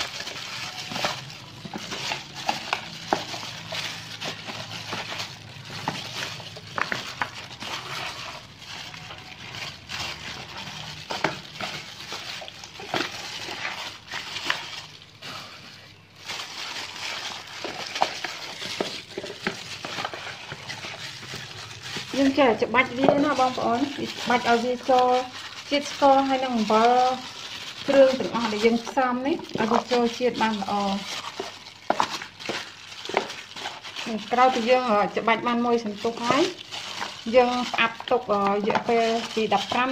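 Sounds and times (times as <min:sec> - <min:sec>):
plastic glove crinkling: 0:00.0 - 0:39.9.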